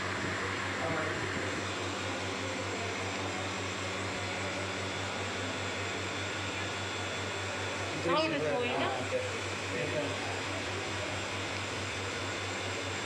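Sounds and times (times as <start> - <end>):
air pump pulsing hum: 0.0 - 13.0.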